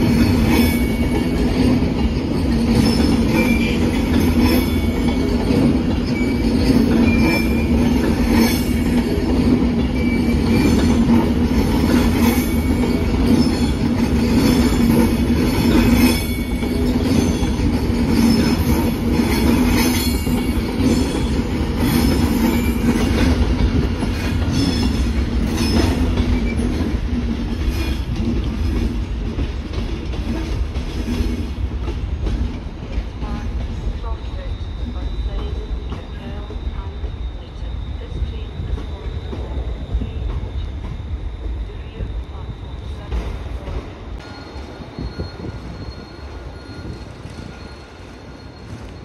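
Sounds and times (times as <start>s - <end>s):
rumble of passing train coaches: 0.0s - 49.0s.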